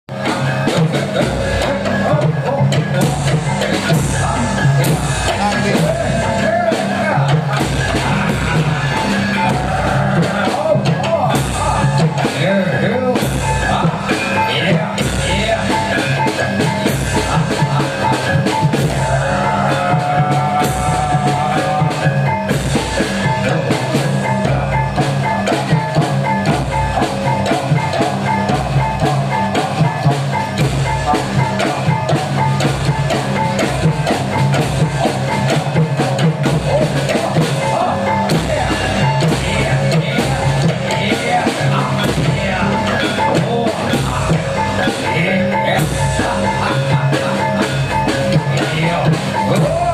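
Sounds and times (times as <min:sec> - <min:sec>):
live rock band music: 0:00.1 - 0:49.9
steady drum beat: 0:00.1 - 0:49.9.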